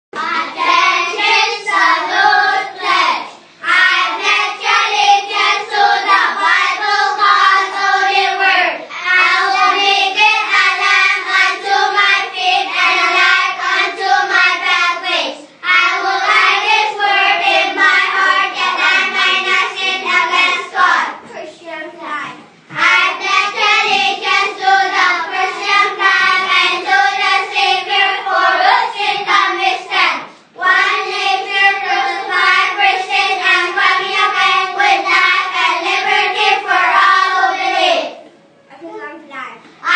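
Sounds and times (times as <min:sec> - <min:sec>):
child singing: 0:00.2 - 0:21.3, 0:22.7 - 0:38.2.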